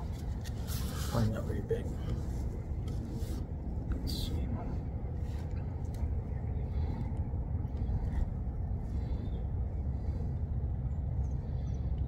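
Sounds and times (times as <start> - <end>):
wind buffeting microphone: 1.6 - 12.0.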